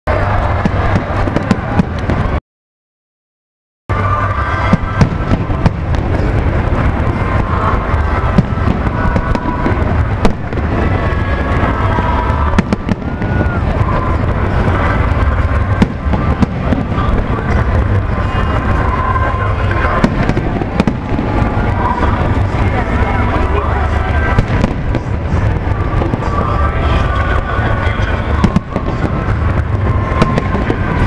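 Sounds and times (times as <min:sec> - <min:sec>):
fireworks crackling and banging: 0:00.1 - 0:02.4, 0:03.9 - 0:31.0
steady rumble: 0:03.9 - 0:31.0.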